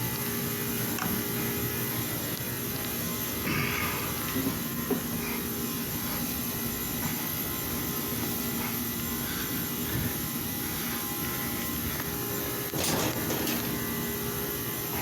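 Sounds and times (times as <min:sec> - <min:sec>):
machinery hum with buzz: 0:00.0 - 0:15.0.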